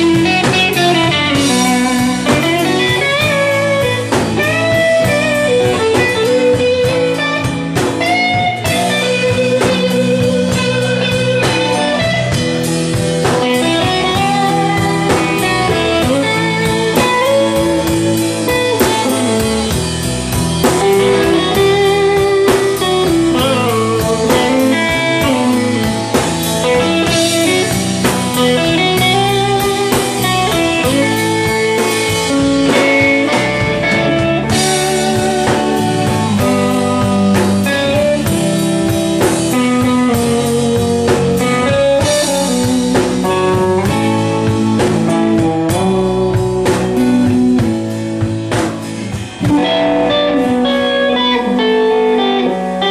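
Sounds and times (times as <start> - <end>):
drums: 0.0 - 52.9
electric guitar lead: 0.0 - 52.9
low accompaniment: 0.0 - 52.9.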